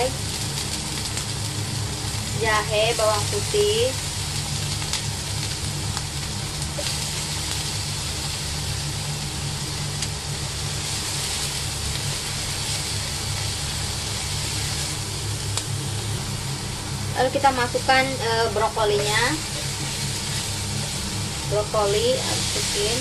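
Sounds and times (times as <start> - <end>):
constant low hum: 0.0 - 23.0
food sizzling in a wok: 0.0 - 23.0.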